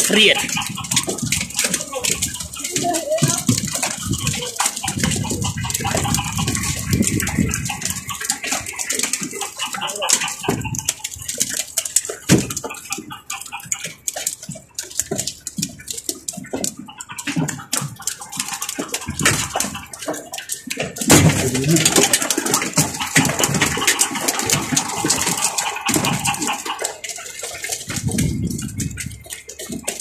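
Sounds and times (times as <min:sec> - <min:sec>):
fish flapping and knocking in bins: 0:00.0 - 0:30.0
water splashing: 0:00.0 - 0:30.0.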